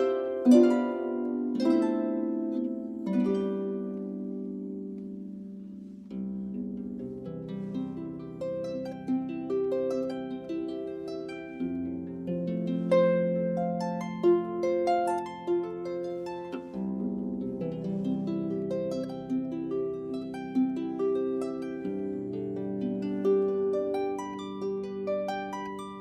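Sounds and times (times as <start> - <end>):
solo harp melody: 0.0 - 26.0.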